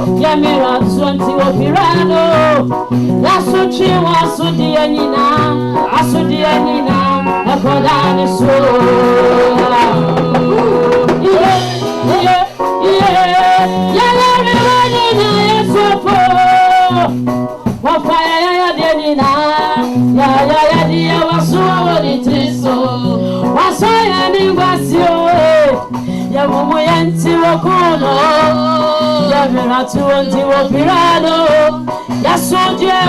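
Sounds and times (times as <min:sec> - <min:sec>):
band playing with singing: 0:00.0 - 0:33.0.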